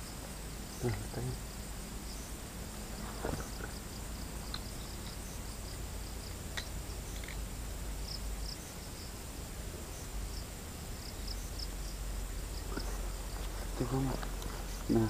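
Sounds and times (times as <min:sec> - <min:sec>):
insects chirping: 0:00.0 - 0:15.0
low background rumble: 0:00.0 - 0:15.0.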